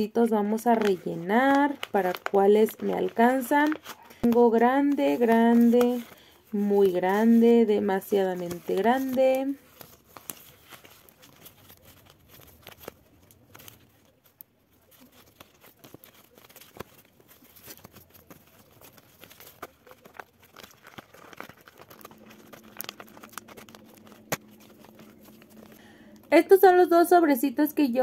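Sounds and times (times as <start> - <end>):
paper rustling: 0.3 - 26.5.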